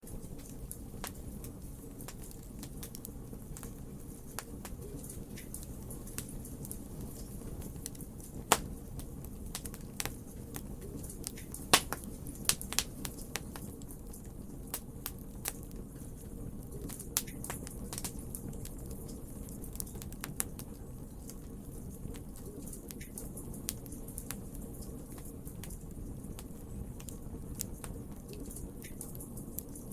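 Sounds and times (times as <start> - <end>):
fire rumbling: 0.0 - 29.9
logs crackling and popping: 0.0 - 29.9.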